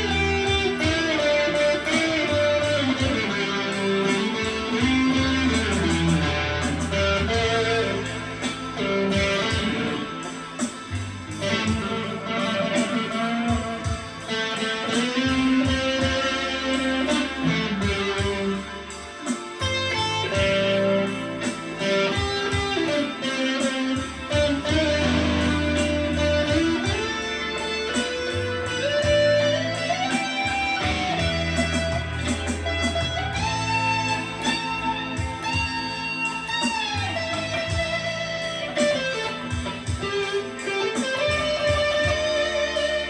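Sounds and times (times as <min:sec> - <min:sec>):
electric guitar blues lead: 0:00.0 - 0:43.0.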